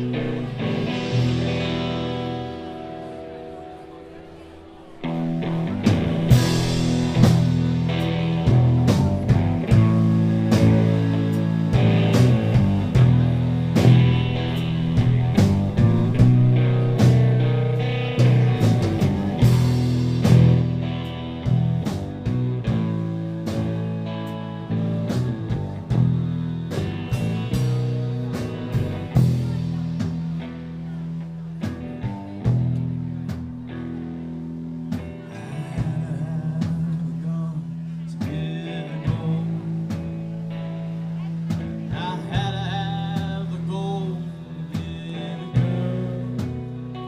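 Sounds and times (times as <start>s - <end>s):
live blues-rock music: 0.0s - 47.0s.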